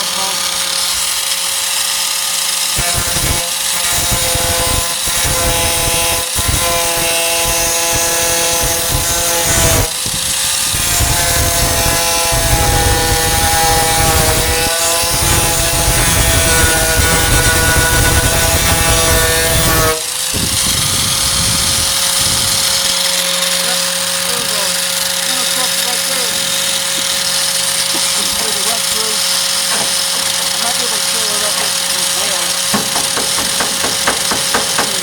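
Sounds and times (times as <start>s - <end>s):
angle grinder motor whine: 0.0s - 35.0s
grinder grinding on steel: 0.0s - 35.0s.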